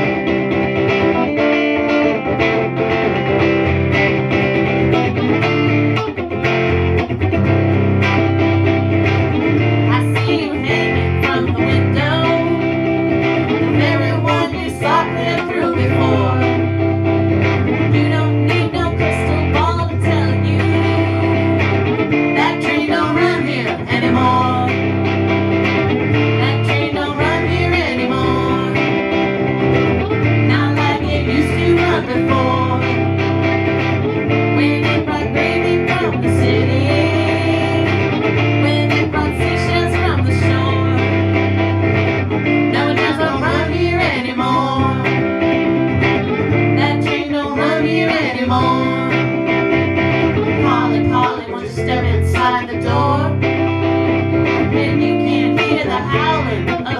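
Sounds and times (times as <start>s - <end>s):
guitars strumming: 0.0s - 56.9s
sliding lead guitar line: 0.0s - 56.9s
steady bass: 0.0s - 56.9s.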